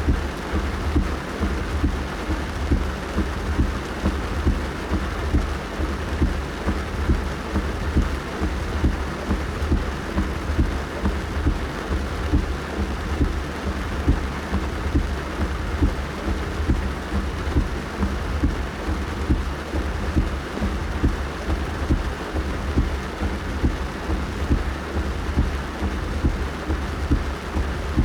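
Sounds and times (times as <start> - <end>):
deep steady rumble: 0.0 - 28.0
rain patter on car roof: 0.0 - 28.0.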